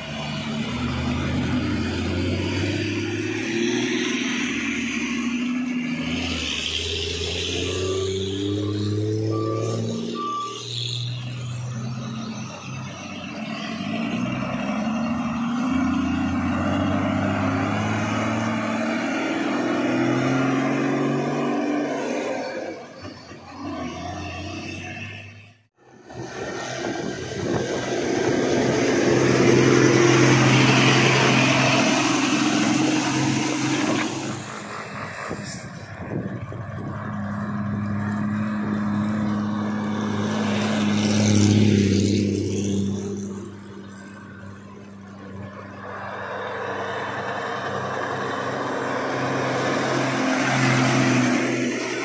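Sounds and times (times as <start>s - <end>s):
diesel trucks driving past: 0.0s - 52.0s.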